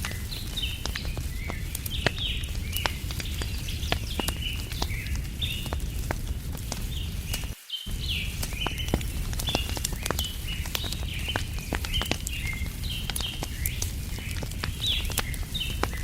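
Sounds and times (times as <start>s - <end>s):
bird chirping: 0.0s - 6.1s, 6.9s - 16.0s
wood fire crackling: 0.0s - 16.0s.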